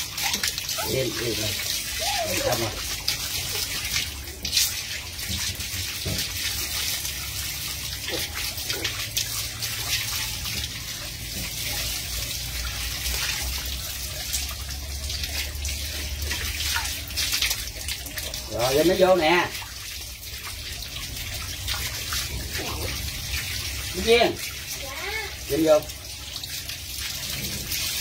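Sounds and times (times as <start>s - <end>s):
tap water splashing on concrete: 0.0s - 28.0s.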